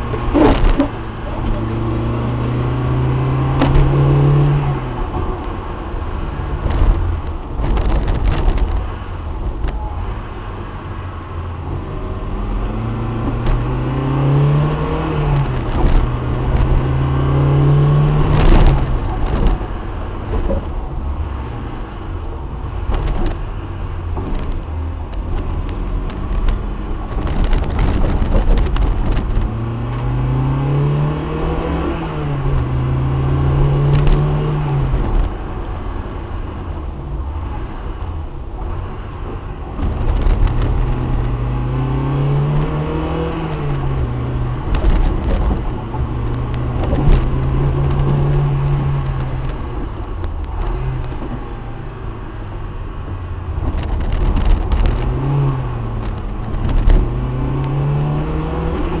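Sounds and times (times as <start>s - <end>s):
car knocks and rattles: 0.0s - 2.3s, 3.3s - 9.9s, 12.8s - 13.9s, 14.7s - 30.1s, 31.2s - 59.0s
car engine accelerating: 0.0s - 59.0s
road rumble: 0.0s - 59.0s.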